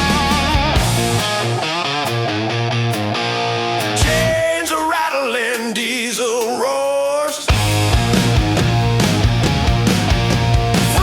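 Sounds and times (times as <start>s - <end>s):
wavering lead guitar: 0.0s - 5.6s, 7.5s - 11.0s
instrumental rock music: 0.0s - 6.5s, 7.4s - 11.0s.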